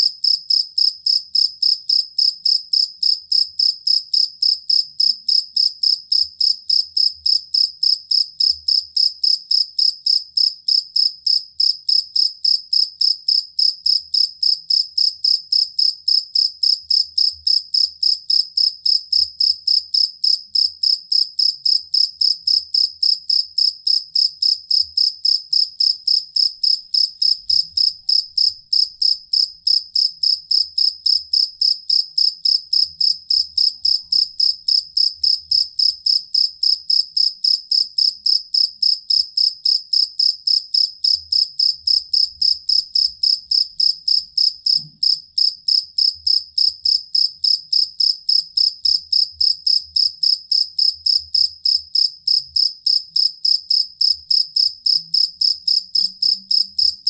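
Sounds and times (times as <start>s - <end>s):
field cricket chirping: 0.0s - 57.0s.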